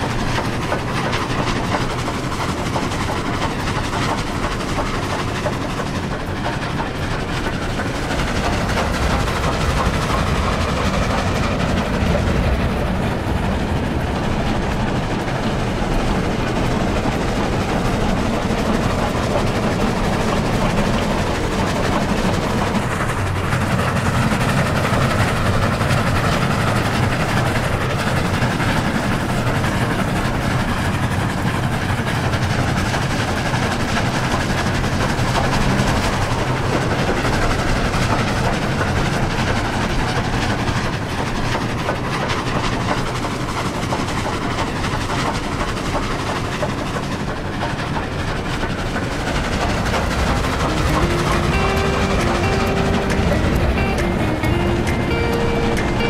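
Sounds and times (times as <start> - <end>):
diesel locomotive engine drone: 0.0 - 56.0
mechanical rail noise: 0.0 - 56.0.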